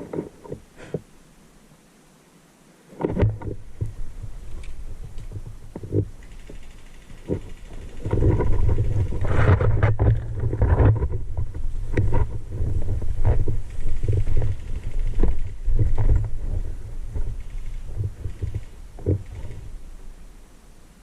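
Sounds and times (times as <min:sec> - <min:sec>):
rustles and knocks: 0:00.0 - 0:01.1, 0:02.9 - 0:19.9
wind buffeting microphone: 0:03.2 - 0:20.2.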